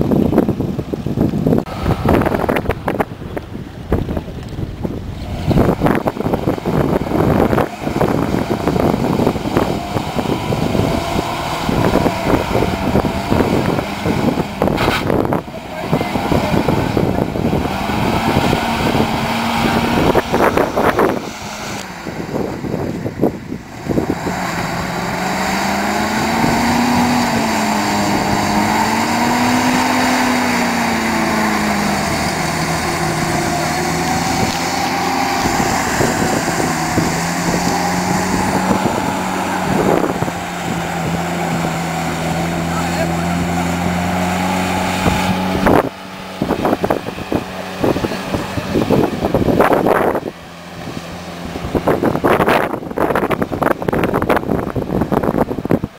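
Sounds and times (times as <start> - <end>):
jeep engine running: 0.0 - 55.9.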